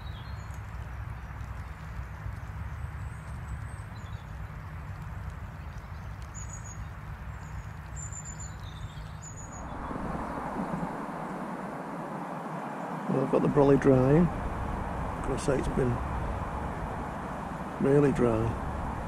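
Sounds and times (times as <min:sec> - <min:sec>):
low background rumble: 0:00.0 - 0:19.0
small birds chirping: 0:00.0 - 0:19.0.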